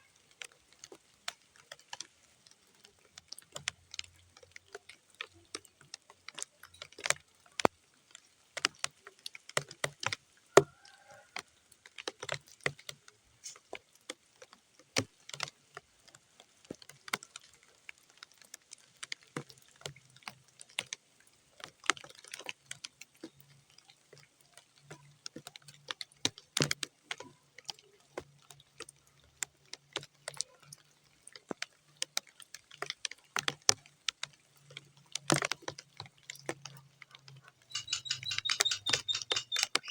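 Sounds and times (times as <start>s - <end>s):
raindrops splatting on mud: 0.0s - 39.9s.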